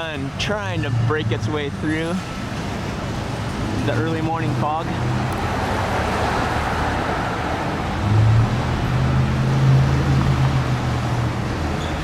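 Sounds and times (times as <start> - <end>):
cars passing: 0.0 - 12.0
low engine hum: 0.0 - 12.0.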